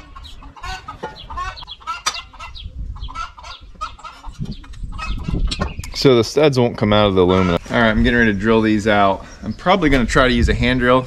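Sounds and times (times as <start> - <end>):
chickens clucking: 0.0 - 6.1, 7.1 - 10.0.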